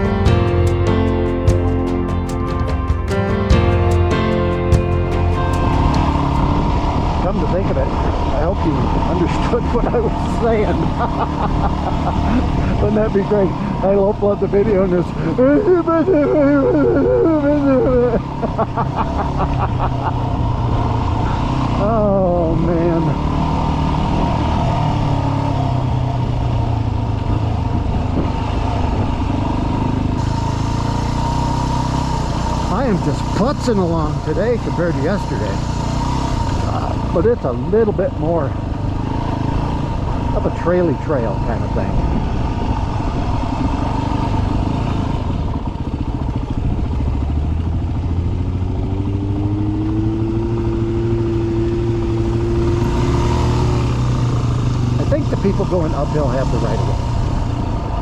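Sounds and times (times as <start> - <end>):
dirt bike engine running: 0.0 - 16.6, 19.2 - 58.0.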